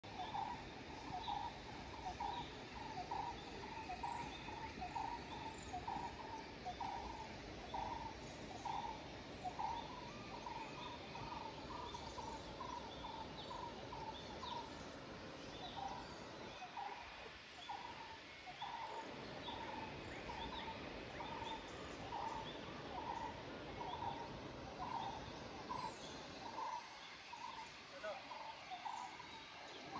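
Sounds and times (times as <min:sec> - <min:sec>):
steady background hiss: 0:00.0 - 0:29.9.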